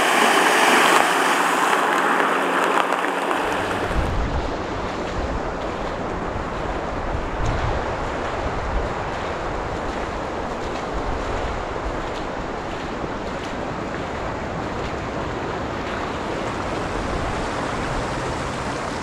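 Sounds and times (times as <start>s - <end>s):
storm runoff flowing: 0.0s - 19.0s
wind rumbling on microphone: 0.0s - 19.0s.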